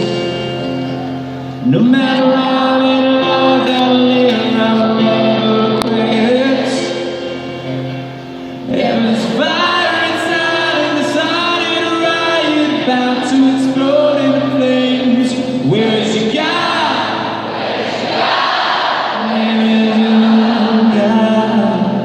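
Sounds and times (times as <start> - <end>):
person singing: 0.0 - 7.6, 8.6 - 17.0, 19.1 - 22.0
keyboard chords: 0.0 - 22.0.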